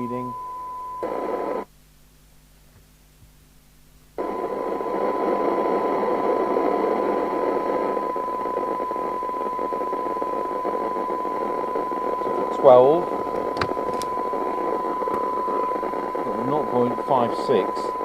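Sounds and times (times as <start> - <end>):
loud radio hiss: 0.0 - 0.4, 1.0 - 1.7, 4.2 - 18.0
steady test tone: 0.0 - 1.7, 4.2 - 18.0.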